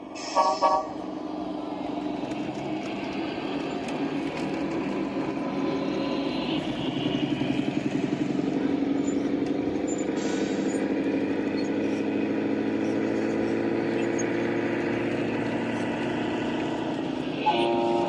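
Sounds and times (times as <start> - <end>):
model truck motor drone: 1.9 - 18.0.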